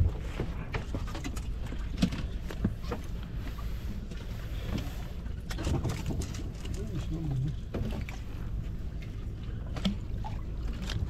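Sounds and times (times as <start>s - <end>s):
boat engine low rumble: 0.0s - 11.0s.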